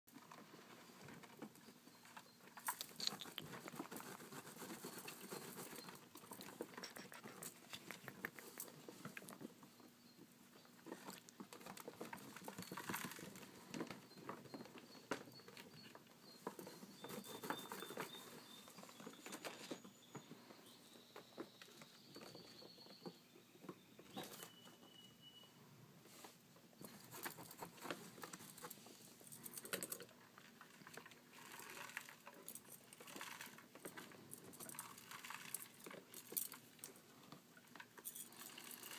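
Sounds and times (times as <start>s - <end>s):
small clicks and rustles: 0.1s - 9.6s, 10.8s - 19.9s, 26.2s - 38.9s.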